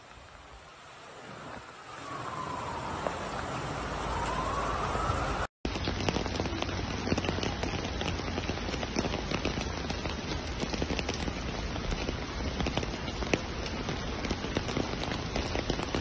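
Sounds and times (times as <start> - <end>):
floodwater flowing: 0.0 - 16.0
heavy rain on a flooded street: 0.0 - 16.0.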